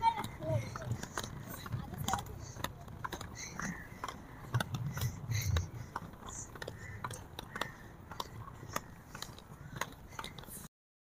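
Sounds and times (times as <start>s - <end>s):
skate wheels rolling on bricks: 0.0s - 10.7s.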